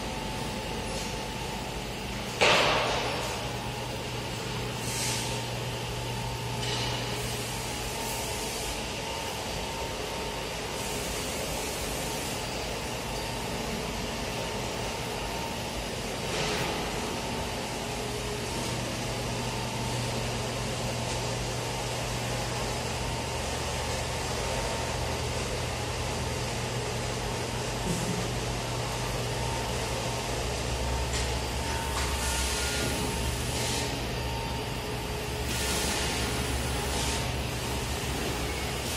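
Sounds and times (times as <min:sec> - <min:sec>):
machine motors humming and whining: 0:00.0 - 0:38.9.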